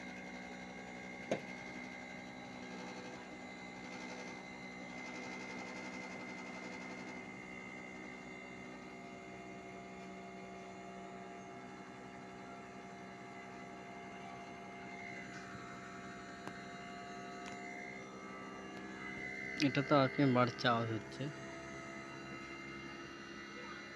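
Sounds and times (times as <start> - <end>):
air conditioner unit humming: 0.0 - 23.9.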